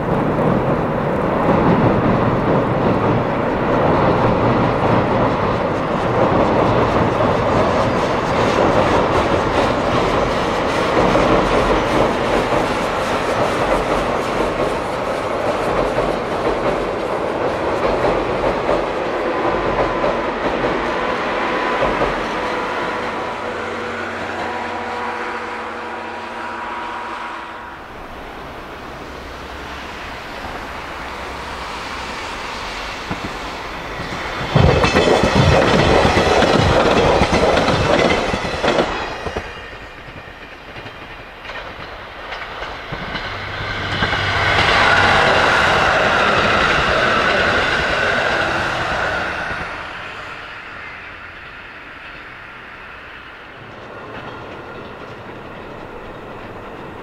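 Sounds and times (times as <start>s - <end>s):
train running on rails: 0.0s - 57.0s.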